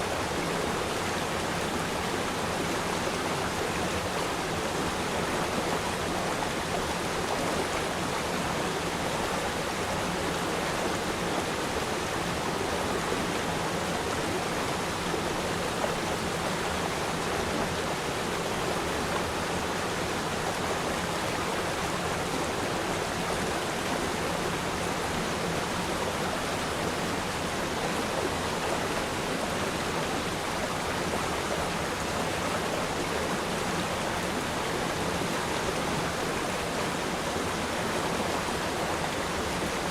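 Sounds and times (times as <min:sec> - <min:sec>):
stream water flowing and splashing: 0:00.0 - 0:39.9.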